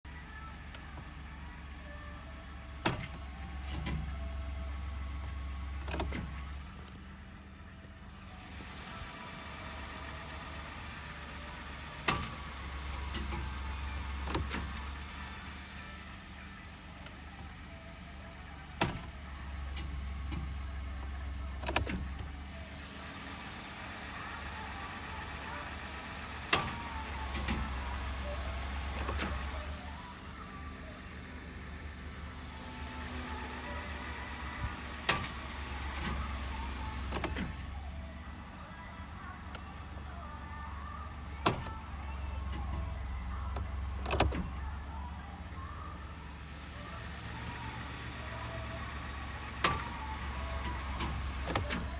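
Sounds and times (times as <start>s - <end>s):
truck sharp clicks: 0.3s - 7.3s, 8.6s - 51.9s.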